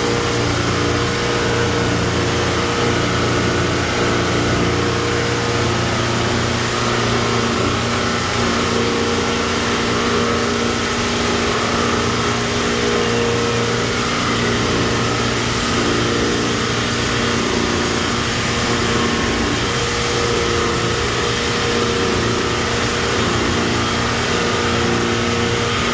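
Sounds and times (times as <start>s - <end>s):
wire chopping machine grinding: 0.0s - 25.9s.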